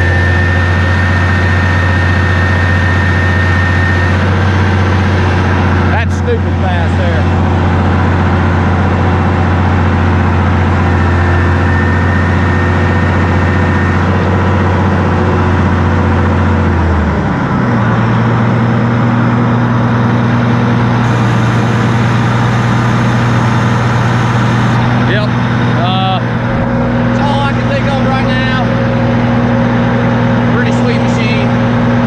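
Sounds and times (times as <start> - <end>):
drilling rig engine droning: 0.0 - 32.0.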